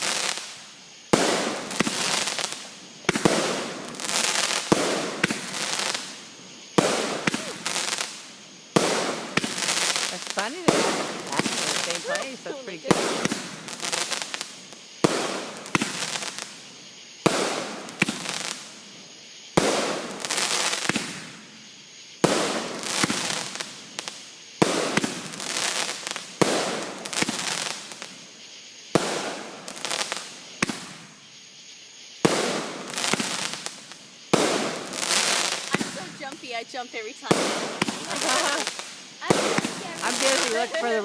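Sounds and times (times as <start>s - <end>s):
fireworks banging: 0.0s - 18.8s, 19.6s - 21.4s, 22.2s - 28.2s, 28.9s - 31.1s, 32.2s - 41.0s.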